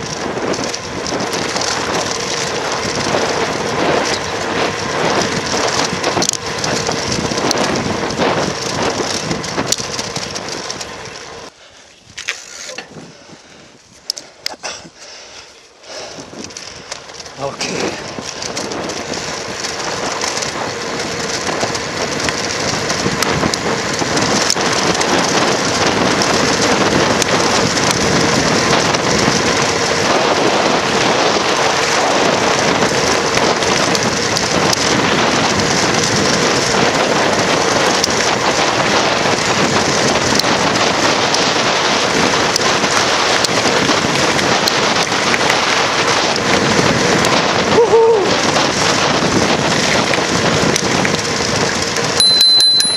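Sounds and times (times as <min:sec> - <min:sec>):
bicycle tyres hissing on tarmac: 0:00.0 - 0:52.2
wind rushing over microphone: 0:00.0 - 0:52.9.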